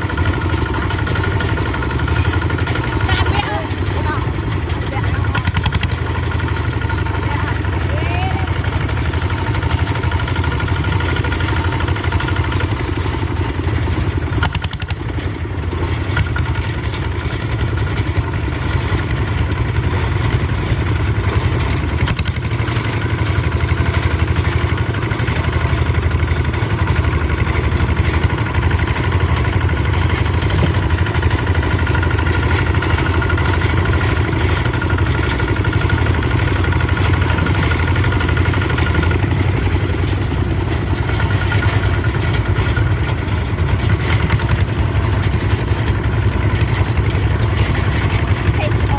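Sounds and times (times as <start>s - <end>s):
clatter: 0.0s - 48.9s
tractor engine chugging: 0.0s - 48.9s.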